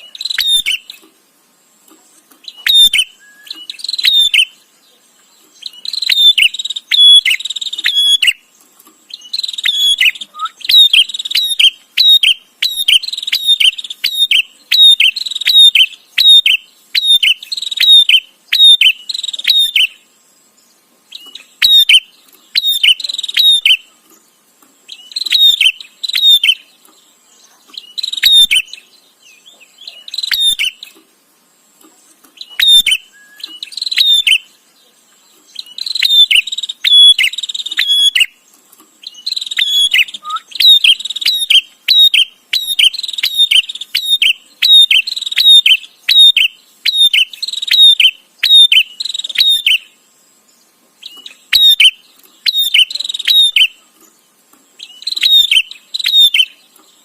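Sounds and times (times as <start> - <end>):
bird sharp repeated chirps: 0.0 - 1.1, 2.1 - 31.0, 31.9 - 57.0.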